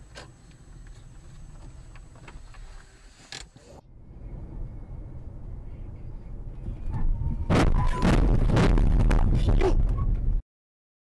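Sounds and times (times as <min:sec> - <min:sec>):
car road and engine rumble: 0:00.0 - 0:10.4.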